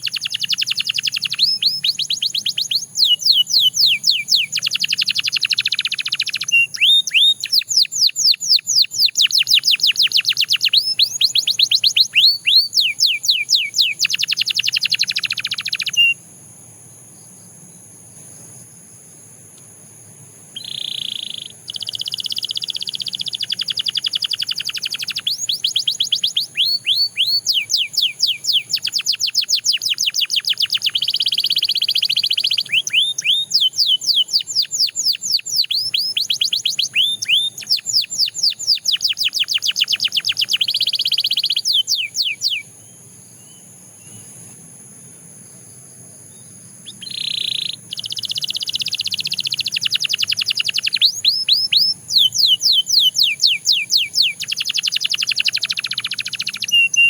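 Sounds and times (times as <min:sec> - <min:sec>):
canary singing trills: 0:00.0 - 0:16.2, 0:20.4 - 0:44.6, 0:45.9 - 0:57.0.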